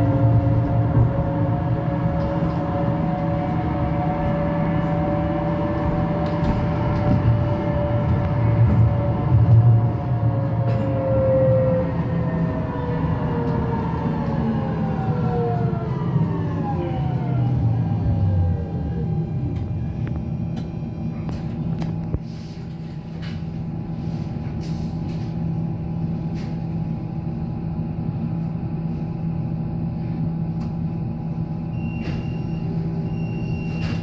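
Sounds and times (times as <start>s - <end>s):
tram drive whine: 0.0s - 34.0s.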